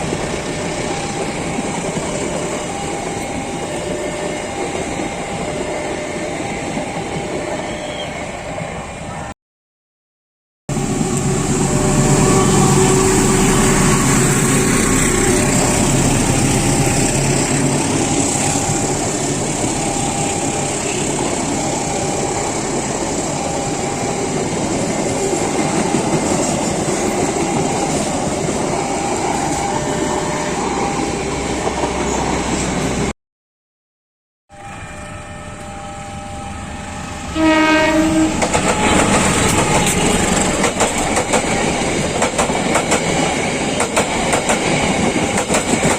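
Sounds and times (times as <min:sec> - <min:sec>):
diesel locomotive engine hum: 0:00.0 - 0:09.3, 0:10.7 - 0:33.1, 0:34.5 - 0:45.9
train wheels rushing on rail: 0:00.0 - 0:09.3, 0:10.7 - 0:33.1, 0:35.0 - 0:45.9.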